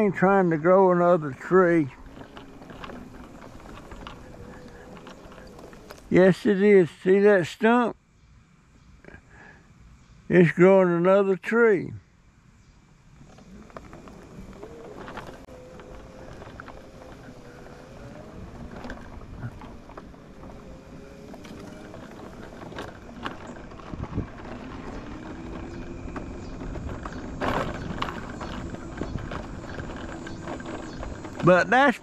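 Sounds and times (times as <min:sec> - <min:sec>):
vehicle driving hum: 0:00.0 - 0:32.0.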